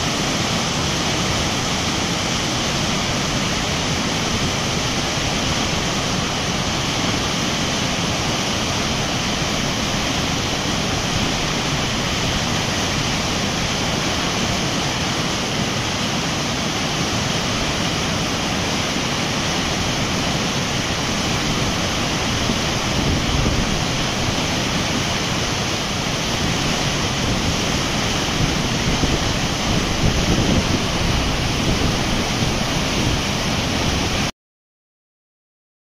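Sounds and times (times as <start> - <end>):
whitewater rushing over boulders: 0.0 - 34.3.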